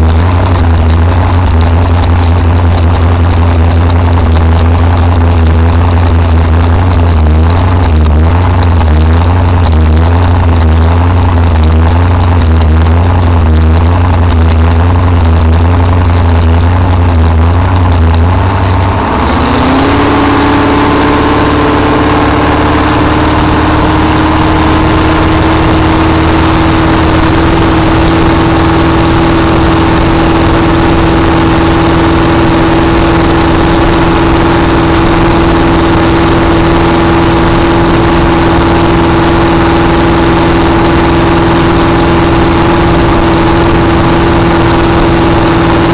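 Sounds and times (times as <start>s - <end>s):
boat engine running hard: 0.0s - 45.9s.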